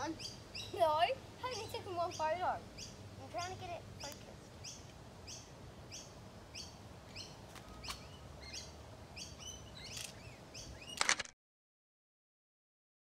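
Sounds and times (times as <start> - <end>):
bird calling: 0.0 - 11.2
faint outdoor background noise: 0.0 - 11.4.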